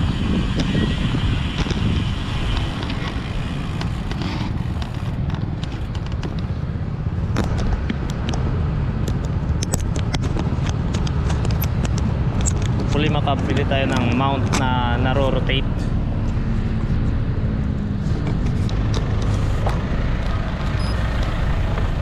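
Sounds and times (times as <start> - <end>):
road traffic: 0.0 - 22.0
wind rumble on microphone: 0.0 - 22.0.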